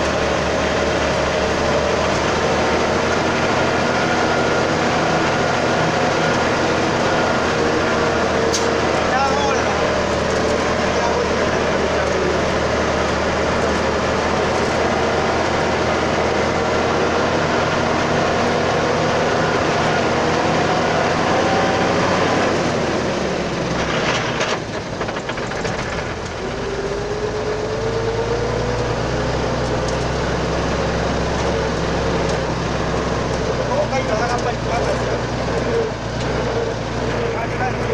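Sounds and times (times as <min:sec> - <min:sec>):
road noise: 0:00.0 - 0:37.9
vehicle engine running: 0:00.0 - 0:37.9.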